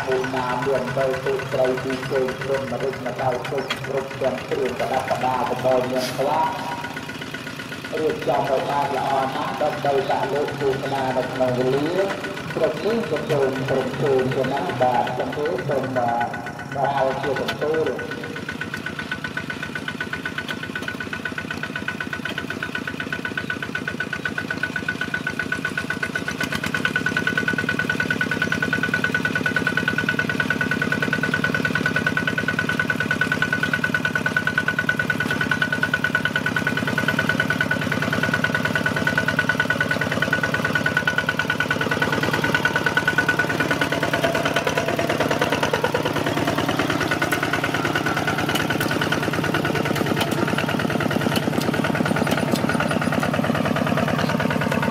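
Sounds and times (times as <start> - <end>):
diesel tractor engine chugging: 0.0 - 54.9.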